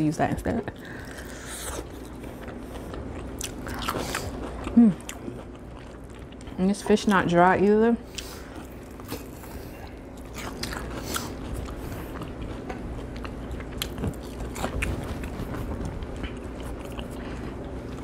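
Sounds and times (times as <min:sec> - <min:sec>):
person chewing crunchy food: 0:00.7 - 0:06.6, 0:08.1 - 0:18.0.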